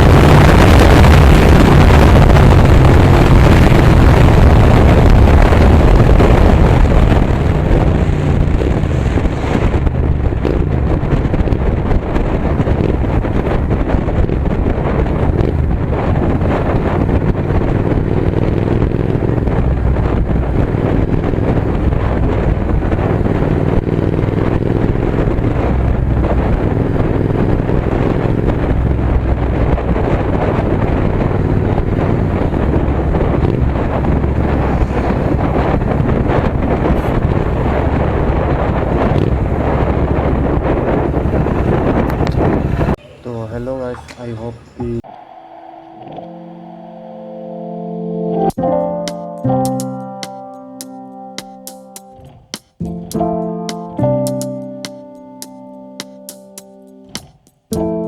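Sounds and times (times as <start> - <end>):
wind buffeting microphone: 0.0 - 50.3
motorcycle engine rumbling: 0.0 - 58.0.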